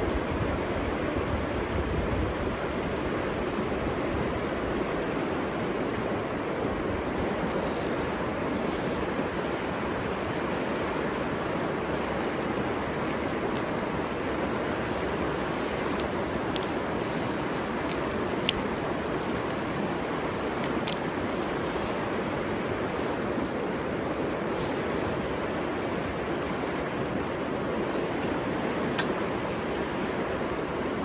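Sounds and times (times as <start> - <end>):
river water running: 0.0 - 31.0.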